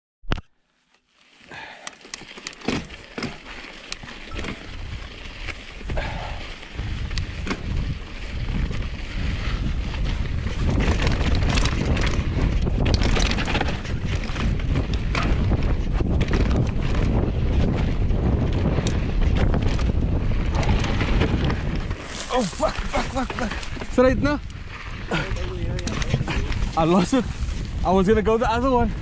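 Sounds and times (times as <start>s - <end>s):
tyres on loose dirt: 0.9s - 29.0s
bike rattles and knocks: 1.4s - 29.0s
wind buffeting microphone: 4.3s - 29.0s.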